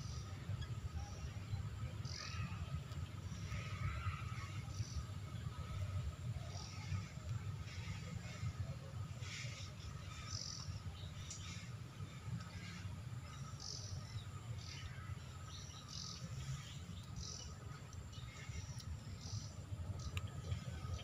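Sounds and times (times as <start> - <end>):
birds chirping: 0.0 - 21.0
faint insect drone: 0.0 - 21.0.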